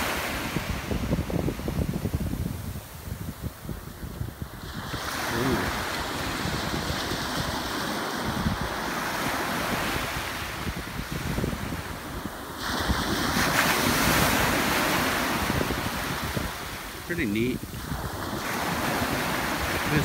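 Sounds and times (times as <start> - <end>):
ocean surf washing ashore: 0.0 - 20.0
wind buffeting microphone: 0.0 - 20.0.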